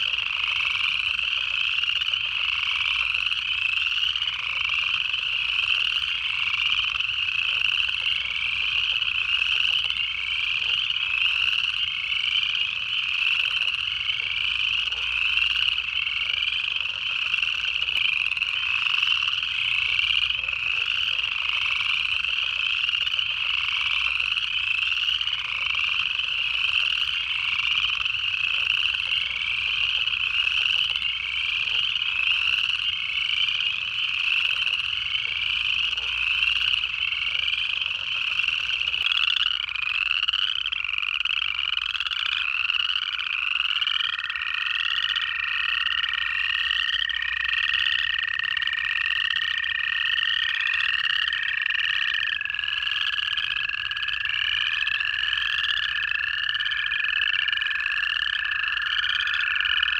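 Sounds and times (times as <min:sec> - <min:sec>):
chorus of frogs trilling: 0:00.0 - 0:59.9.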